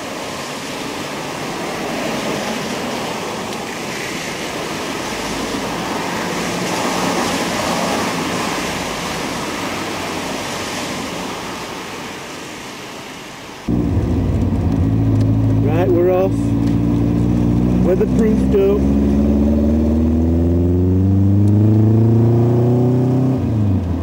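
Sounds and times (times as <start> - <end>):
heavy rain falling: 0.0 - 19.4.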